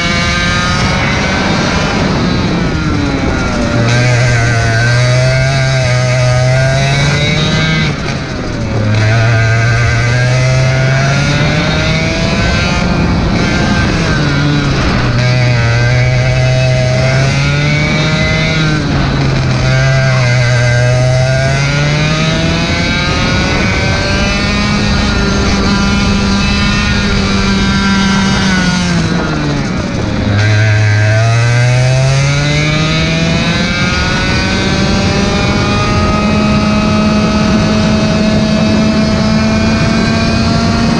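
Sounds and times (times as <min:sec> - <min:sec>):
racing kart engine revving: 0:00.0 - 0:40.9.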